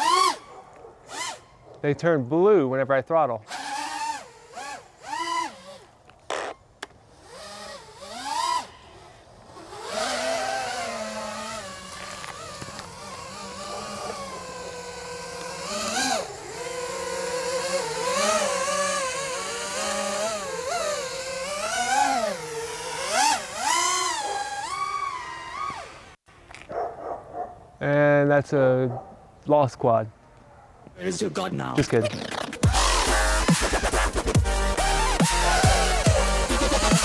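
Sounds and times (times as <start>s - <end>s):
quadcopter motors whining: 0.0s - 2.6s, 3.4s - 26.2s, 31.1s - 37.0s.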